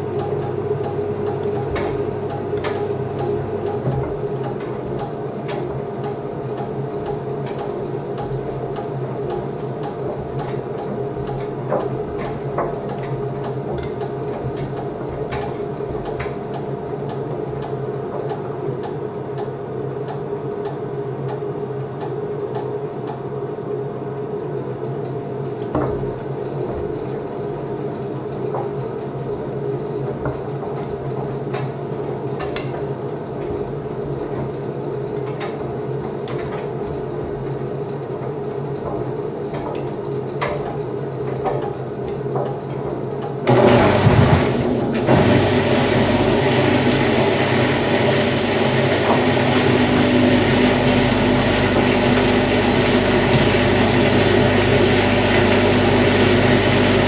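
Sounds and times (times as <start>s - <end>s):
washer-dryer motor hum: 0.0s - 57.0s.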